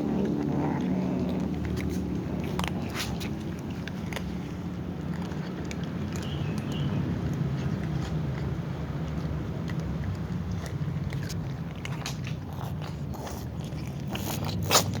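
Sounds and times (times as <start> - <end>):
cats crunching food: 0.0 - 15.0.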